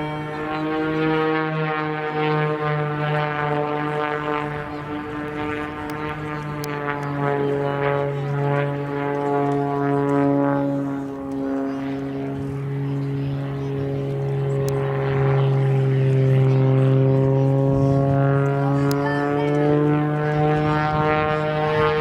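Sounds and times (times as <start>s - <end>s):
propeller aircraft engine humming: 0.0s - 22.0s.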